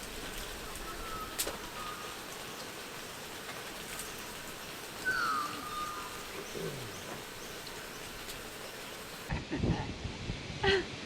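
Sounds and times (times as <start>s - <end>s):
background hiss: 0.0s - 9.3s.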